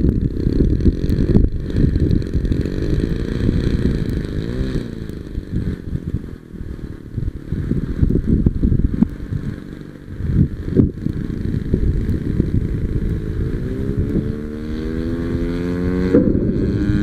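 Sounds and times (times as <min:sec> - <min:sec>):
model plane engine running: 0:00.0 - 0:17.0
wind buffeting microphone: 0:00.0 - 0:17.0.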